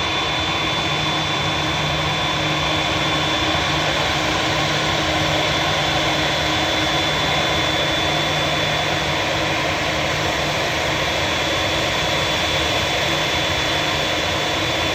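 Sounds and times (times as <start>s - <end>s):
jet engines running: 0.0s - 14.9s.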